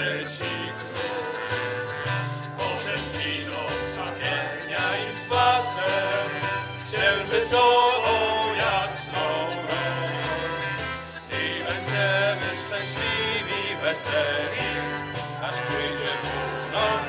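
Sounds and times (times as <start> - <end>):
man singing through pa: 0.0 - 1.9, 2.6 - 17.0
musical accompaniment with beat: 0.0 - 17.0.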